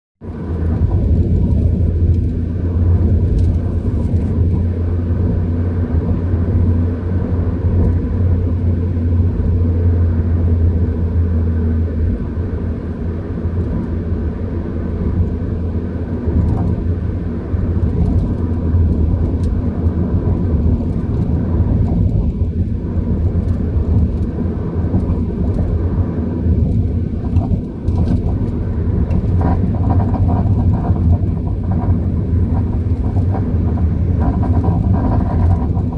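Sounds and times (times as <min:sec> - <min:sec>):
car engine and road noise: 0:00.2 - 0:35.9.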